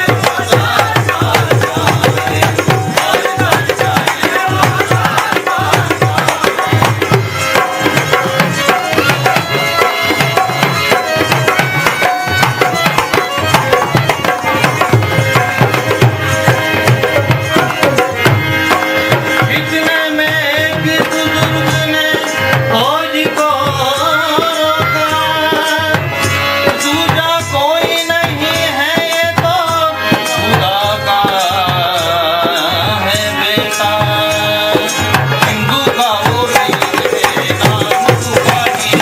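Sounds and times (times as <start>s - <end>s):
fast tabla rhythm: 0.0s - 39.0s
sustained instrumental melody: 0.0s - 39.0s.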